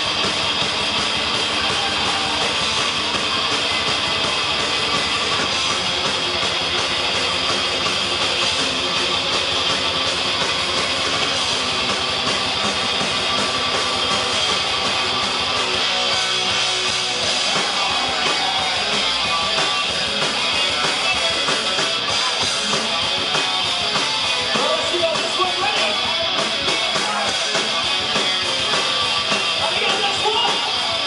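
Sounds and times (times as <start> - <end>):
bass guitar: 0.0 - 31.0
drums: 0.0 - 31.0
electric guitars: 0.0 - 31.0.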